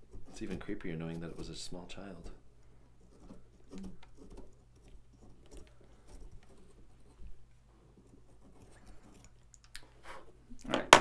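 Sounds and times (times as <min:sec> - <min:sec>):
knife carving pumpkin: 0:00.0 - 0:10.3.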